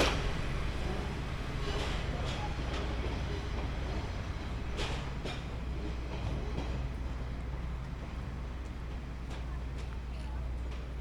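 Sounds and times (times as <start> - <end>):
diesel railcar engine hum: 0.0 - 11.0.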